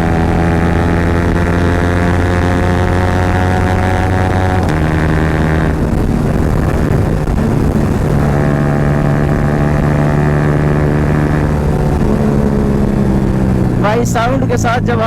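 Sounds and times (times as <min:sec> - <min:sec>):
motorcycle engine with loud exhaust: 0:00.0 - 0:15.0.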